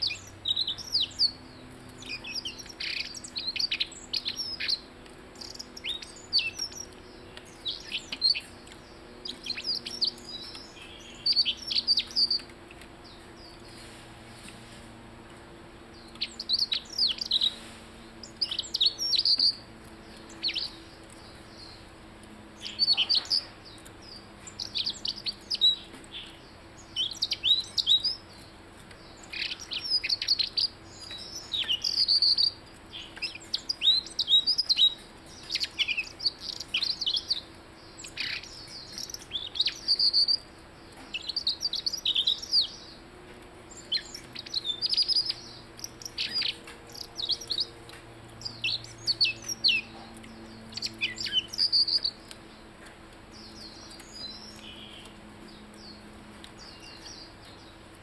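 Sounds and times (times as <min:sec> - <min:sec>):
bird singing: 0:00.0 - 0:14.3, 0:15.1 - 0:58.0.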